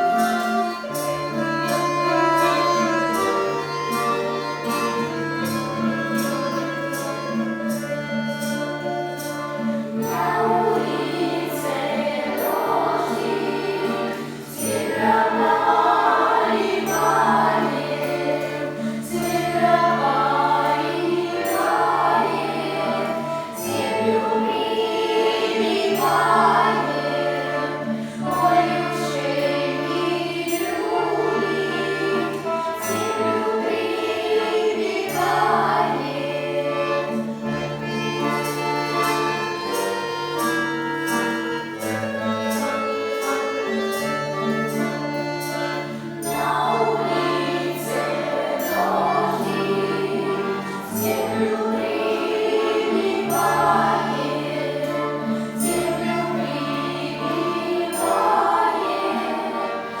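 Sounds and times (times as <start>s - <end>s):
folk instrument ensemble: 0.0s - 60.0s.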